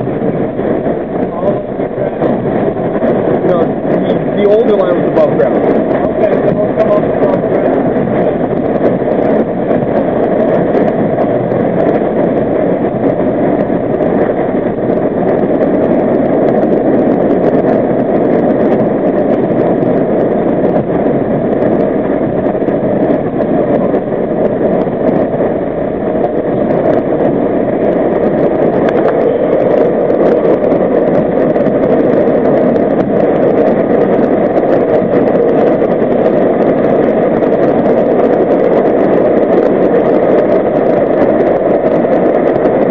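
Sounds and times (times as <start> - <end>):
subway train roaring in tunnel: 0.0 - 42.8.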